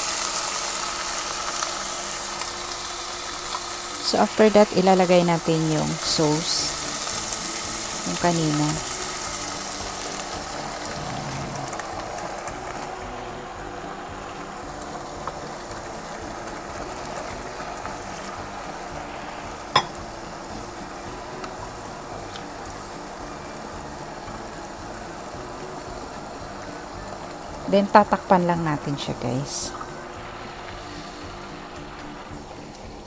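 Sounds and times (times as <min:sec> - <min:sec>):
sauce sizzling in wok: 0:00.0 - 0:33.0.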